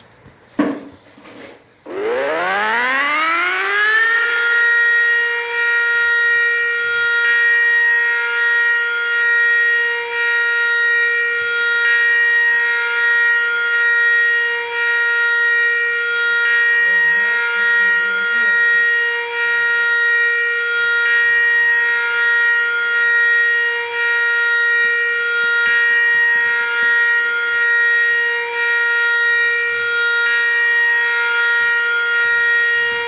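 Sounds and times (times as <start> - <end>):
warning siren wailing: 1.8 - 33.0.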